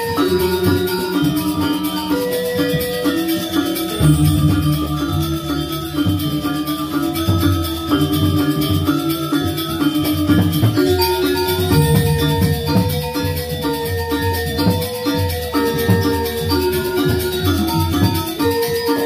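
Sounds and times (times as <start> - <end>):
busy cymbal rhythm: 0.0 - 19.0
drum rhythm: 0.0 - 19.0
tuned metal percussion melody: 0.0 - 19.0.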